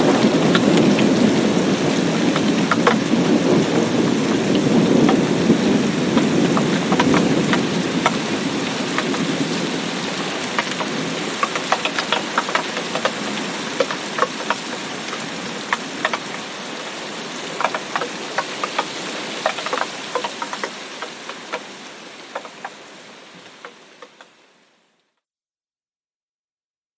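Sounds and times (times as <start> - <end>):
raindrops ticking on a surface: 0.0 - 24.6
steady rain: 0.0 - 25.0.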